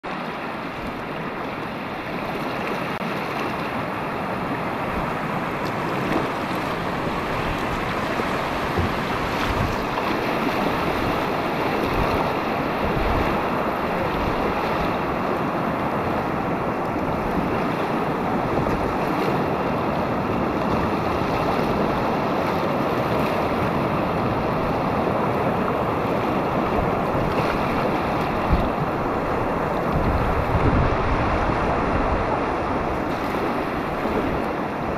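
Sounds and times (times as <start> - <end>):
whitewater rushing: 0.1 - 34.9.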